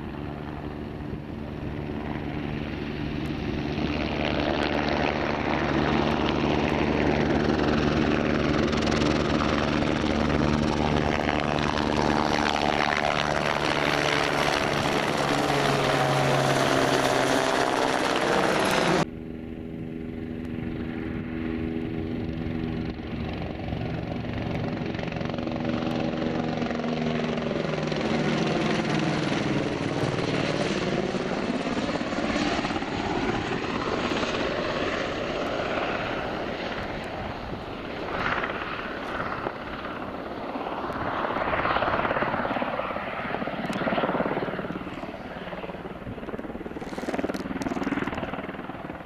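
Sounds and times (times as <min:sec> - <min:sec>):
helicopter rotor and engine hum: 0:00.0 - 0:49.0.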